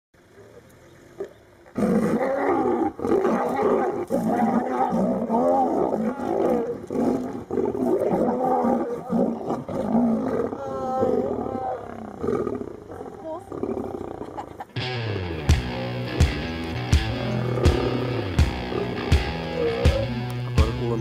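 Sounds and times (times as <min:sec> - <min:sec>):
lions roaring and growling: 0:00.3 - 0:14.4, 0:15.6 - 0:21.0.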